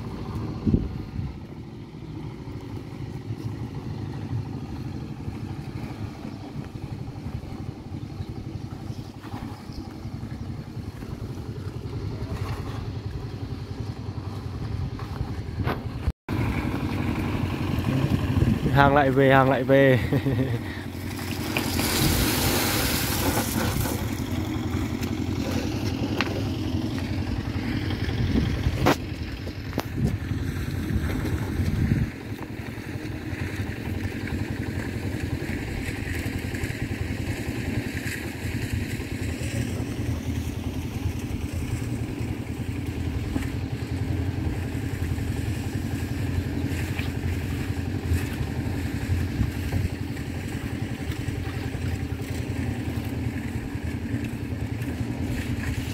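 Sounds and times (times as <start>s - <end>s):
small engine running: 0.0s - 55.9s.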